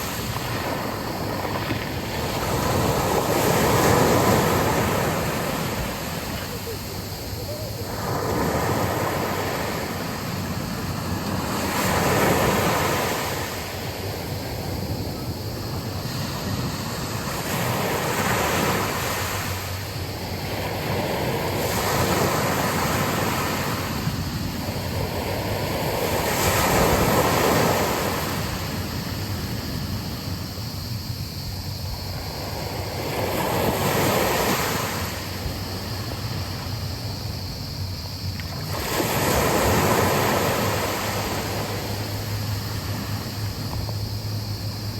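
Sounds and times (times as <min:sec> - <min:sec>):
sea waves breaking on beach: 0:00.0 - 0:44.9
wind on microphone: 0:00.0 - 0:44.9.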